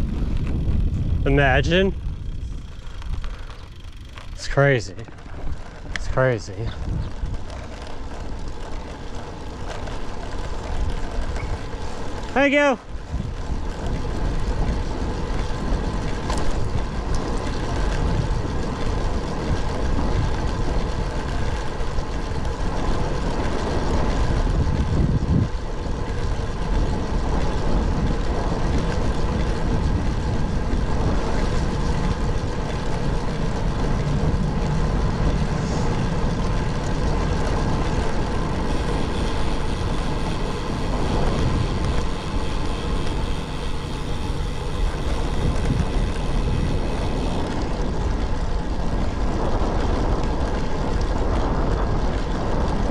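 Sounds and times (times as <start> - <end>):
tyre and road noise: 0.0 - 52.9
wind rushing over microphone: 0.0 - 52.9.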